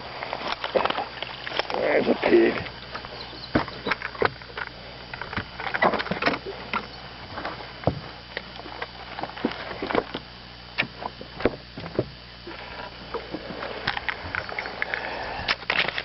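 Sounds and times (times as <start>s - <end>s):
knocks and scrapes in boat: 0.0s - 16.0s.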